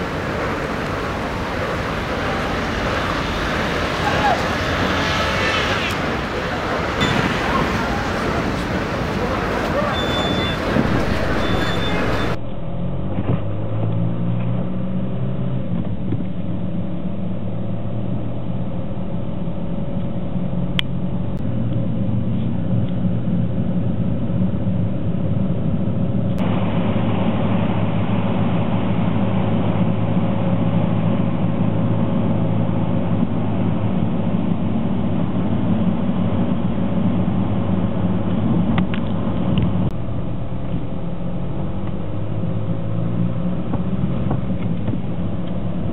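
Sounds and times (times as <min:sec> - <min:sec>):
low hum: 0:00.0 - 0:45.9
street traffic: 0:00.0 - 0:45.9
vehicle engine rumble: 0:00.0 - 0:45.9.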